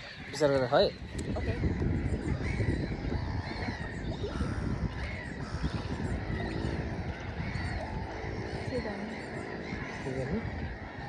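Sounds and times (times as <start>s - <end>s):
small birds chirping: 0.0s - 11.0s
low rumble: 1.0s - 11.0s.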